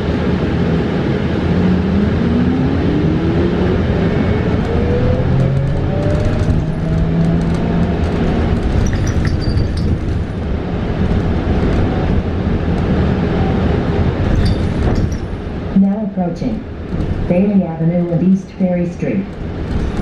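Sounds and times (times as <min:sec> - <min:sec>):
road and tyre rumble: 0:00.0 - 0:18.2, 0:19.3 - 0:20.0.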